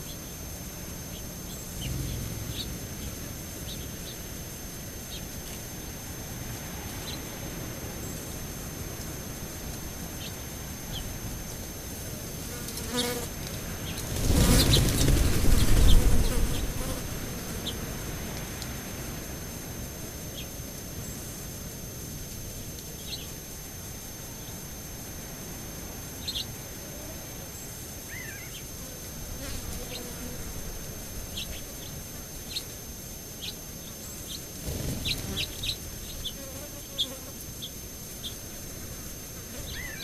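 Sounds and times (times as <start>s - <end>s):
flying insect buzzing: 0.0s - 40.0s.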